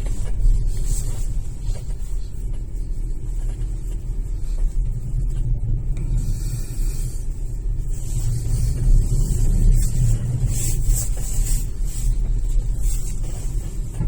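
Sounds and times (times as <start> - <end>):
road rumble inside car: 0.0 - 14.0.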